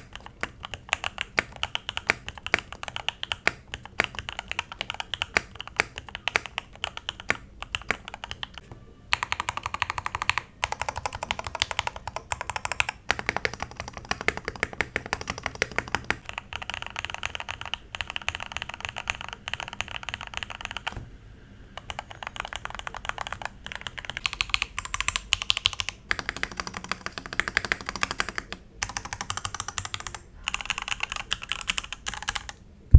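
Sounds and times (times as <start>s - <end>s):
mechanical keyboard typing: 0.0s - 21.0s, 21.8s - 32.6s.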